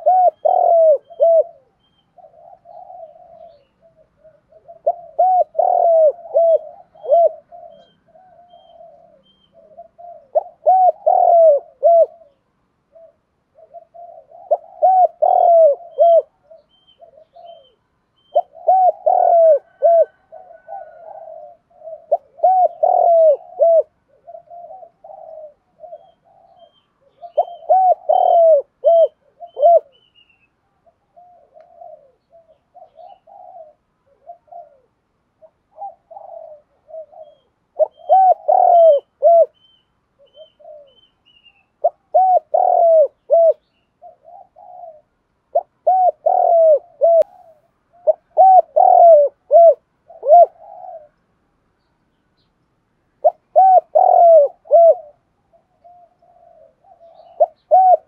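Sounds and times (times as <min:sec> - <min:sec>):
dove cooing: 0:00.0 - 0:51.2, 0:53.2 - 0:58.0.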